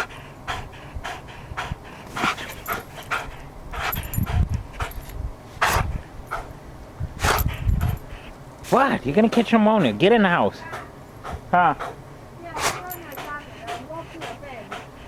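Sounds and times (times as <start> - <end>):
dog panting heavily: 0.0 - 6.6, 7.2 - 10.0, 10.6 - 15.0.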